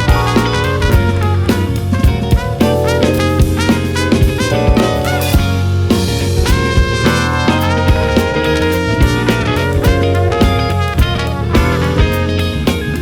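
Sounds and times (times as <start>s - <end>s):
jazz-funk band playing: 0.0s - 13.0s.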